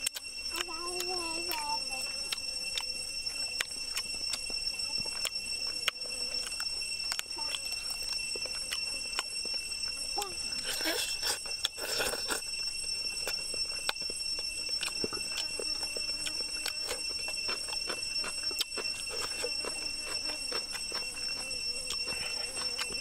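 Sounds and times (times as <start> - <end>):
person chewing and lip-smacking: 0.0 - 12.6, 13.2 - 23.0
steady high whine: 0.0 - 23.0.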